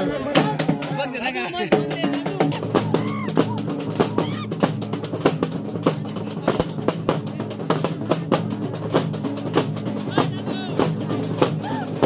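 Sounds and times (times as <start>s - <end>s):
large drums beaten with sticks: 0.3s - 12.0s.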